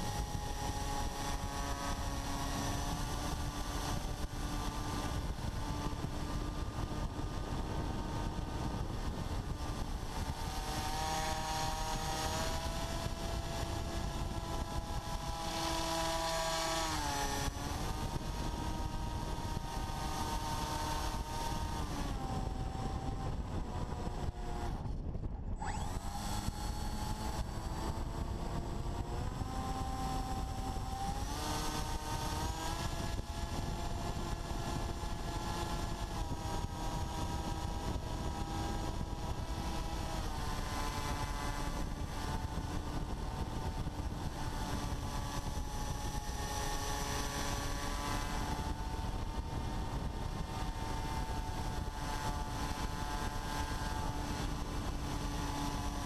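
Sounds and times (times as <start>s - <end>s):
electric motor propeller whining: 0.0s - 56.0s
wind rushing over camera: 0.0s - 56.0s.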